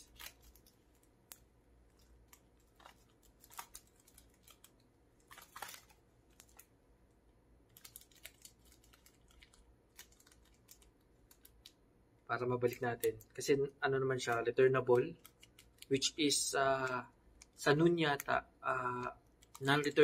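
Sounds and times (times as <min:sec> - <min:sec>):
fingers crinkling cellophane: 0:00.0 - 0:06.8, 0:07.6 - 0:11.8, 0:12.4 - 0:13.5, 0:14.1 - 0:18.4, 0:19.0 - 0:20.0.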